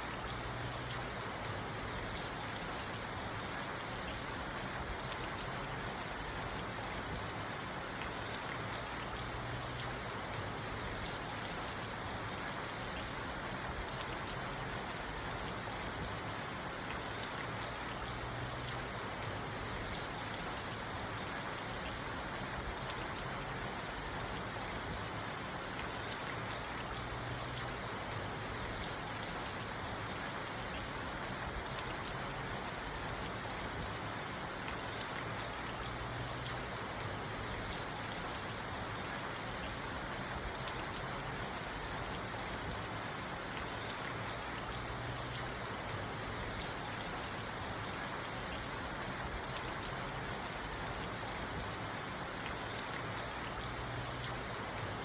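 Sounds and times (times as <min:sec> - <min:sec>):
rain drumming on a car: 0:00.0 - 0:55.0.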